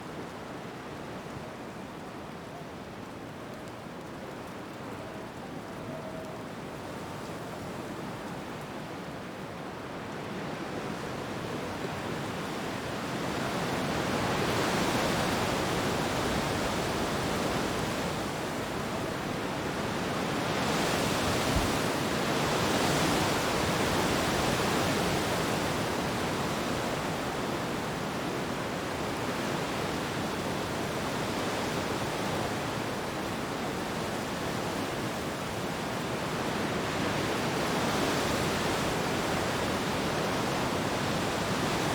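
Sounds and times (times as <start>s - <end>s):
wind rustling tree leaves: 0.0s - 41.9s.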